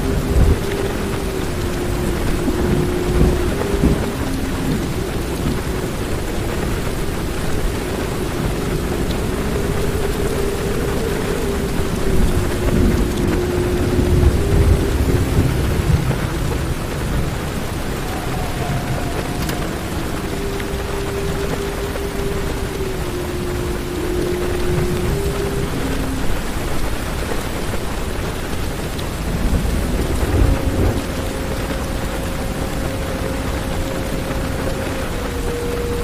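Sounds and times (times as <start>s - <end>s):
heavy rain drumming on car roof: 0.0s - 36.0s
low rumble of thunder: 0.0s - 36.0s.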